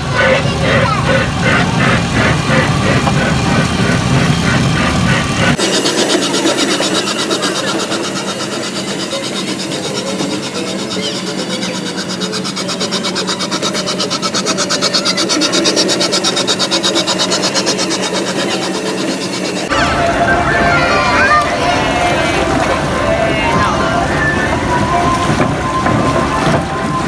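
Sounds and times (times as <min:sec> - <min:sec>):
fast-forward mechanical chattering: 0:00.0 - 0:23.4.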